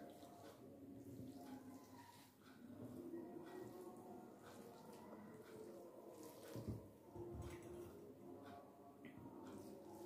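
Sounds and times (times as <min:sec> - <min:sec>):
rice being mixed by hand: 0:00.0 - 0:10.0.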